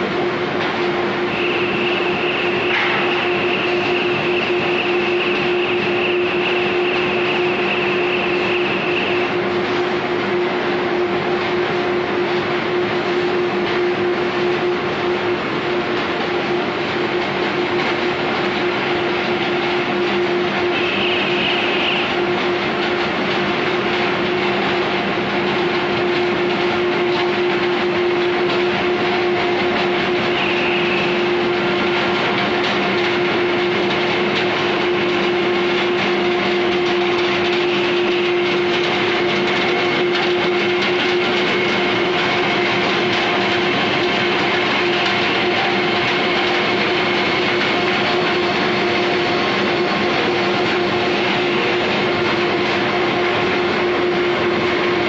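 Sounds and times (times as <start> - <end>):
constant machine hum: 0.0 - 55.0
conveyor machinery running: 0.0 - 55.0.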